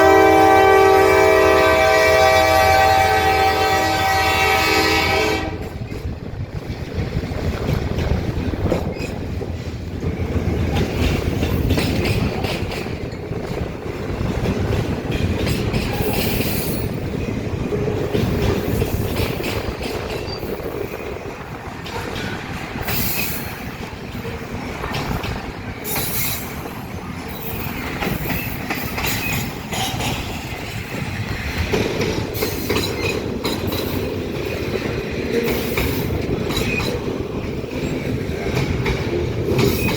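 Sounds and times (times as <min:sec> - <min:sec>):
freight train rumbling past: 0:00.0 - 0:39.9
wheels clattering over rails: 0:05.6 - 0:39.9.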